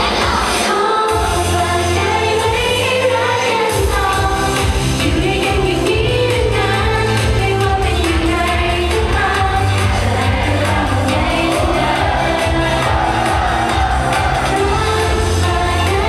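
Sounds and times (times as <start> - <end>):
pop song with singing: 0.0 - 16.0.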